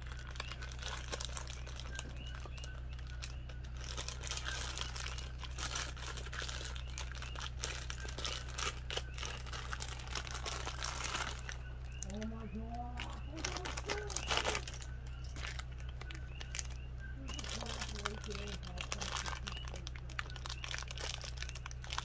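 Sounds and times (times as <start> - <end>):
plastic bag crinkling: 0.0 - 22.0
steady low hum: 0.0 - 22.0.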